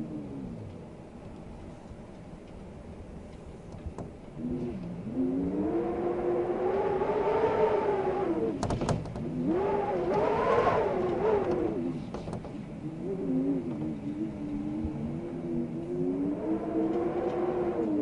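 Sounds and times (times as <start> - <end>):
wind howling: 0.0 - 18.0.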